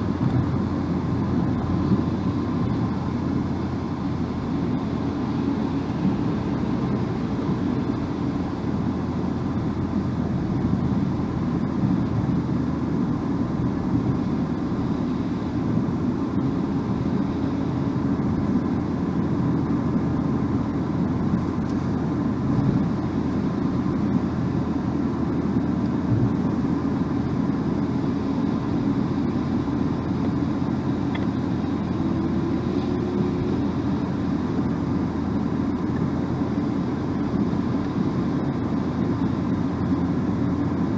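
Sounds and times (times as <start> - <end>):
car cabin road rumble: 0.0 - 40.9.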